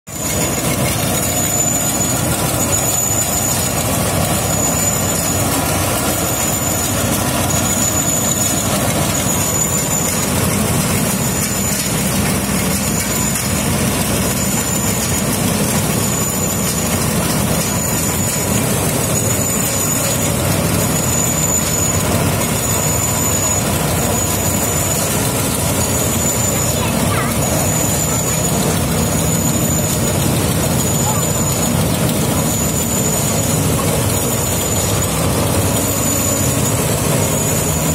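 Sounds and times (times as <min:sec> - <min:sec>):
harvester diesel engine running: 0:00.0 - 0:37.9.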